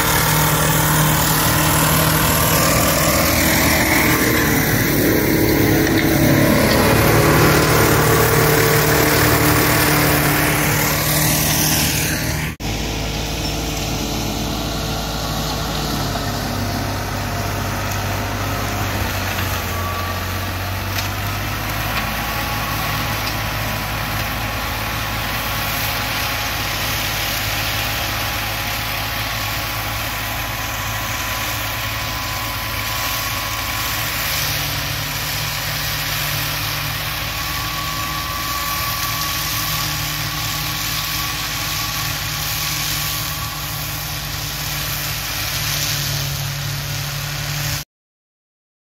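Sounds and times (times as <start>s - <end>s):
mulcher rushing noise: 0.0s - 47.8s
tractor engine under load: 0.0s - 47.8s.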